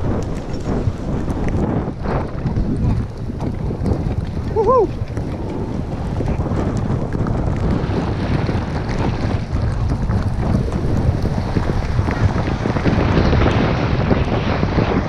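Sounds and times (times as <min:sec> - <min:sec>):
skis sliding on snow: 0:00.0 - 0:15.0
wind buffeting microphone: 0:00.0 - 0:15.0.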